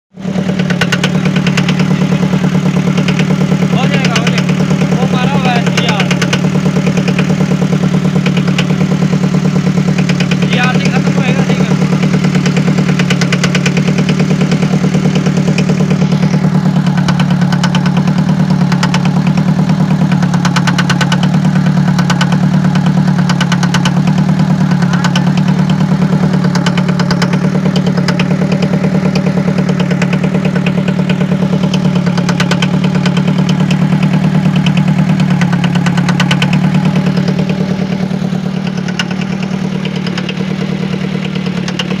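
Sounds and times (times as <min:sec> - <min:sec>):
diesel engine idling with clatter: 0:00.1 - 0:42.0.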